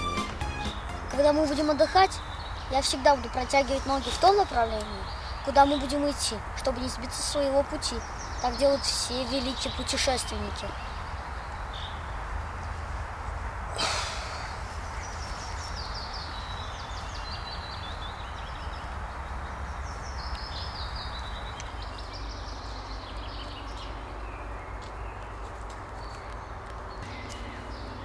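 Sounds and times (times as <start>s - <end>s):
songbirds singing: 0.0s - 13.1s, 13.7s - 28.0s.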